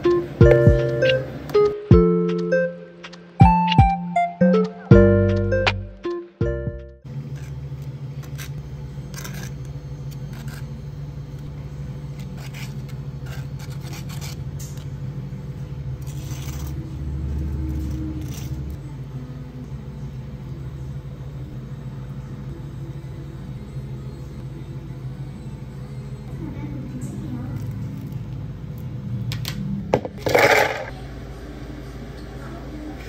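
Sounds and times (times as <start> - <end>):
cafe machinery hum: 0.0 - 33.0.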